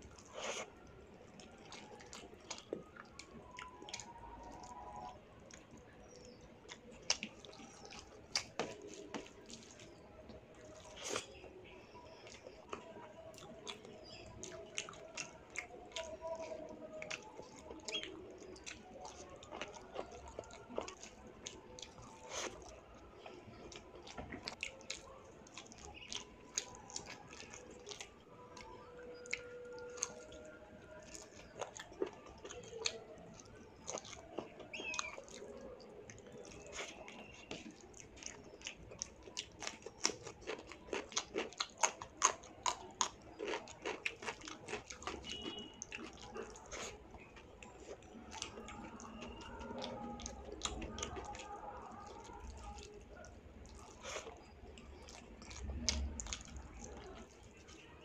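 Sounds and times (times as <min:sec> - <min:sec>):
wet chewing and lip smacking: 0:00.0 - 0:58.0
fingers squishing rice in gravy: 0:00.1 - 0:58.0.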